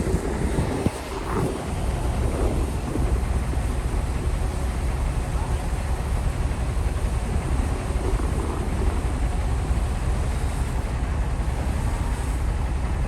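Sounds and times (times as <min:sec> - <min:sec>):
bulldozer diesel engine rumbling: 0:00.0 - 0:13.0.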